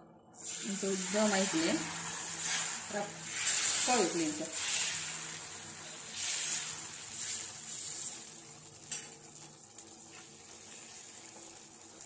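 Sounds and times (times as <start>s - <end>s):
batter sizzling on hot pan: 0.4s - 12.0s.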